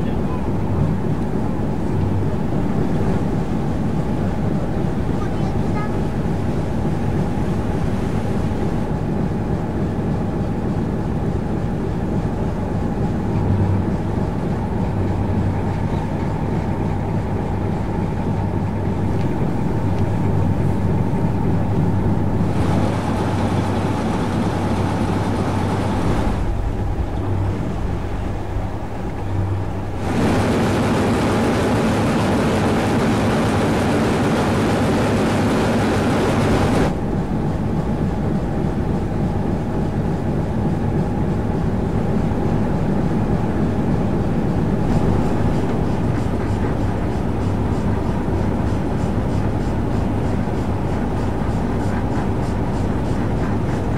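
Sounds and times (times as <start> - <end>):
diesel engine humming: 0.0 - 53.9.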